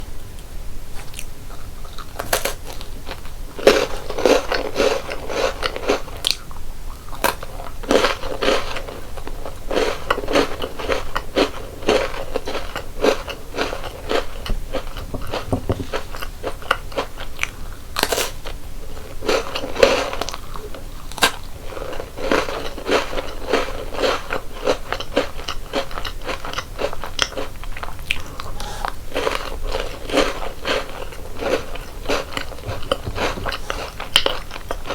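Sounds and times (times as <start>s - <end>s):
crunchy chewing: 1.0s - 34.9s.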